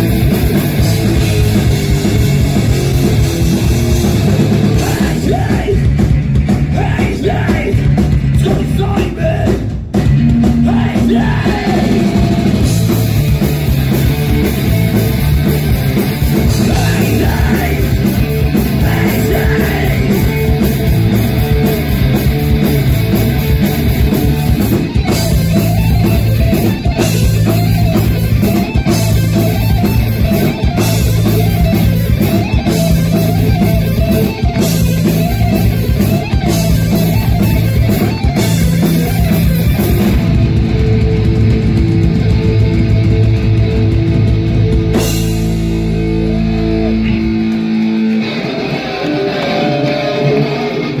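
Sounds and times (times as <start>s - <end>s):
bass guitar: 0.0s - 51.0s
distorted electric guitars: 0.0s - 51.0s
drums: 0.0s - 51.0s.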